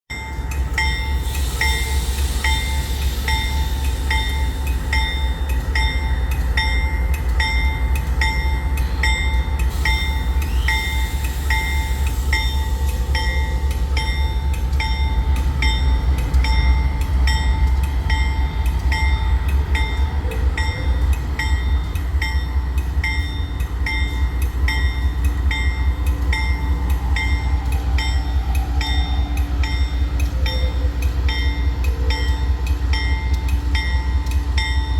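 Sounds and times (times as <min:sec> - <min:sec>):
freight train rumbling past: 0:00.1 - 0:34.9
high ringing tick: 0:00.2 - 0:34.9.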